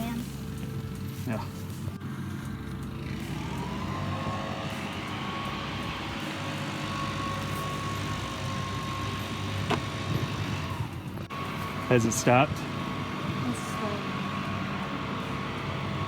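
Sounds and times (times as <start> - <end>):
engine drone: 0.0 - 16.0
even whine: 0.0 - 16.0.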